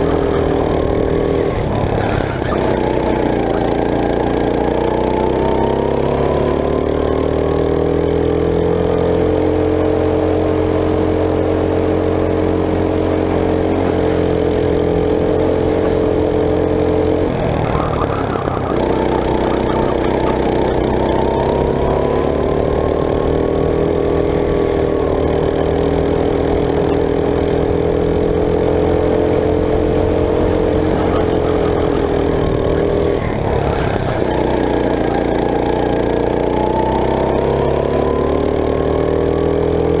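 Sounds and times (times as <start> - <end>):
go-kart engine at high revs: 0.0 - 40.0.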